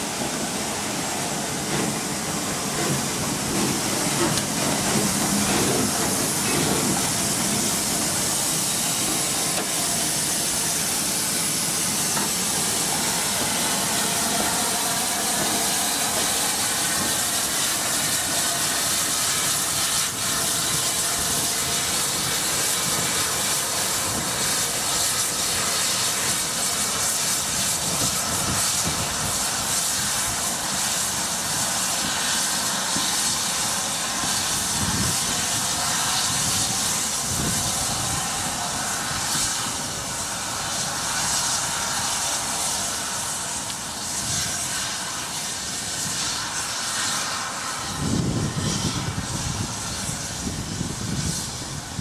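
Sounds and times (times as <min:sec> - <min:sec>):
steam hissing: 0:00.0 - 0:52.0.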